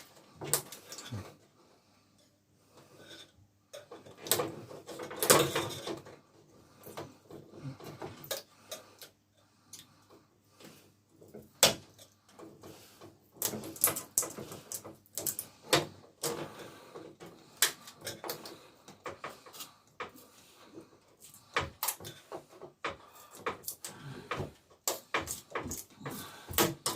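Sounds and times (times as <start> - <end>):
hands clicking and tapping on parts: 0.0 - 1.4, 3.8 - 20.4, 21.0 - 26.9.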